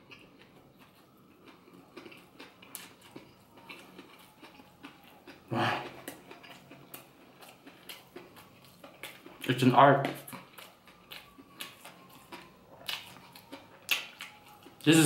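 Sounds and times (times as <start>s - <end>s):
chewing crusty bread: 0.0s - 15.0s.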